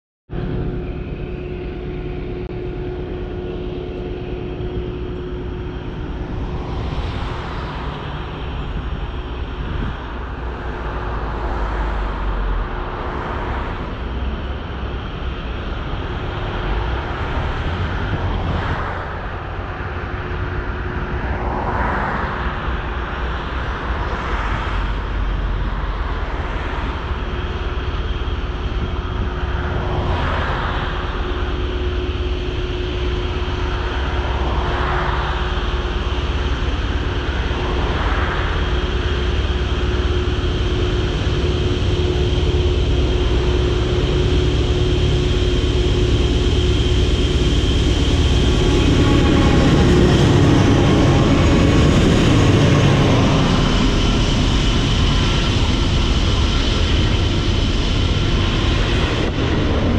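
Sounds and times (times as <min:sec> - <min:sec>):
locomotive engine drone: 0:00.3 - 0:59.9
rushing noise: 0:00.3 - 0:59.9
train rumble: 0:00.3 - 0:59.9.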